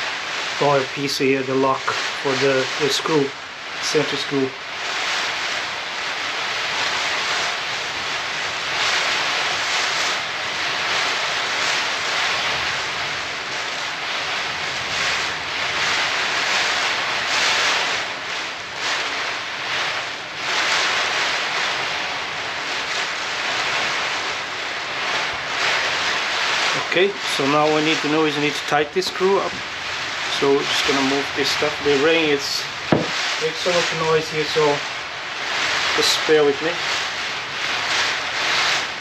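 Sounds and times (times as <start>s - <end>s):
heavy rain hissing: 0.0s - 39.0s.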